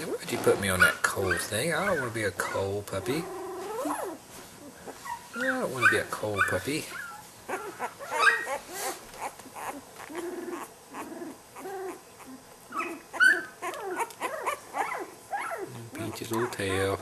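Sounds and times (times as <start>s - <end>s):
puppy whimpering and squealing: 0.8s - 4.2s, 4.8s - 17.0s.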